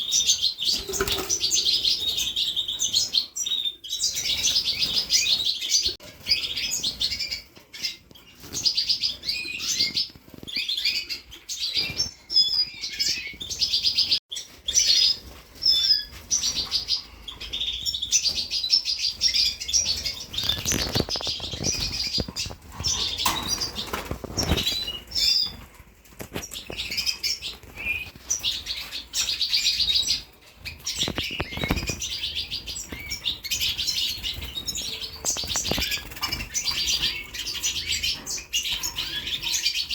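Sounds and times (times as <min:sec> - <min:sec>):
canaries chirping and twittering: 0:00.0 - 0:39.9.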